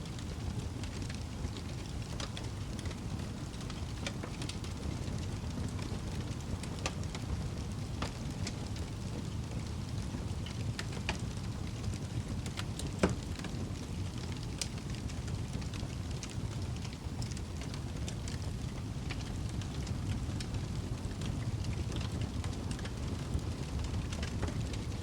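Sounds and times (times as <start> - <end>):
burning wood crackling and popping: 0.0 - 25.0
fire flames rumbling: 0.0 - 25.0.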